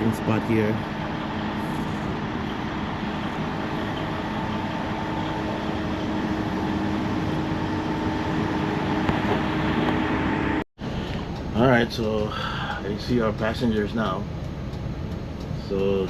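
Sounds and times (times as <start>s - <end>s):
bus engine idling: 0.0s - 16.0s
climate fan running: 0.0s - 16.0s.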